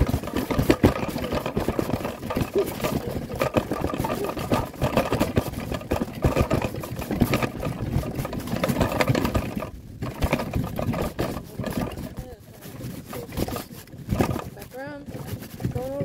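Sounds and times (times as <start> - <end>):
wagon wheels rumbling and rattling: 0.0 - 16.0.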